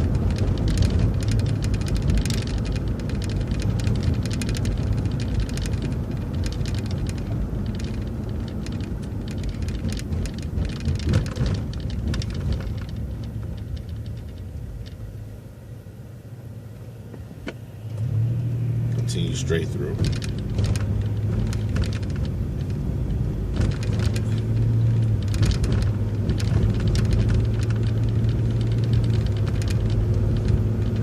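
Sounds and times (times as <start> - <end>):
bus body rattles: 0.0 - 15.0, 19.1 - 31.0
bus engine low drone: 0.0 - 31.0
road noise: 0.0 - 31.0.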